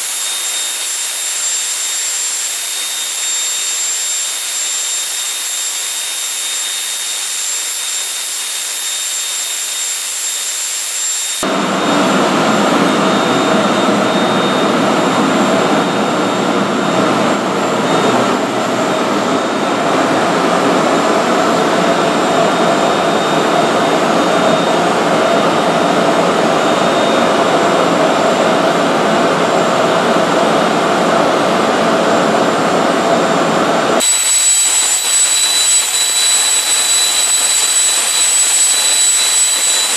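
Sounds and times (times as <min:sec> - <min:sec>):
gas turbine running: 0:00.0 - 0:39.9.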